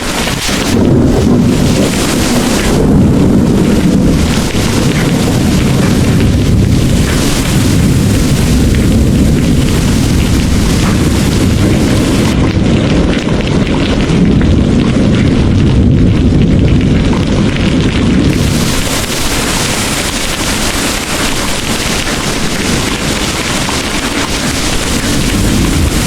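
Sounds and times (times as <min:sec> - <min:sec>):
heavy rain pouring: 0:00.0 - 0:26.0
rolling rumble of thunder: 0:00.0 - 0:26.0.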